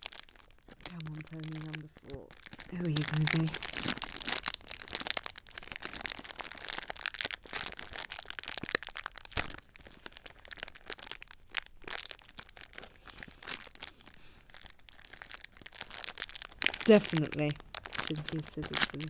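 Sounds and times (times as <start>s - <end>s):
foil packet crinkling: 0.0s - 19.0s.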